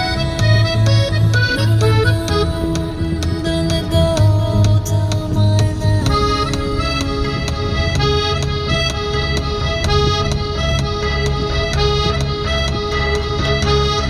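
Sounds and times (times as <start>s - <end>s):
background music with steady beat: 0.0s - 14.0s.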